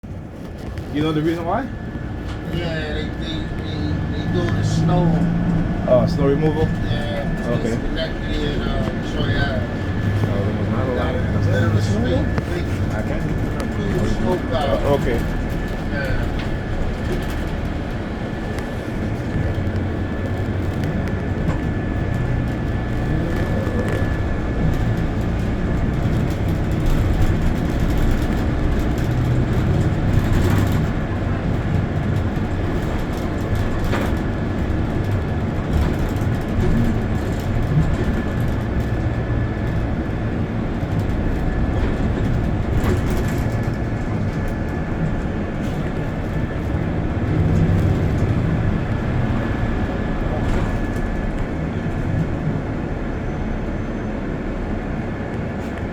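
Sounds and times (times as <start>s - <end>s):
bus rumbling from inside: 0.0s - 55.9s.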